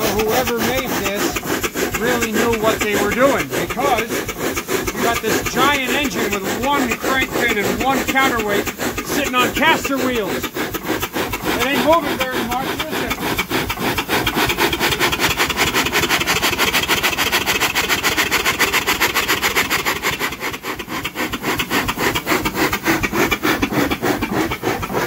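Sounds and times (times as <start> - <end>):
hissing steam: 0.0 - 24.8
steam engine beat: 0.0 - 25.0.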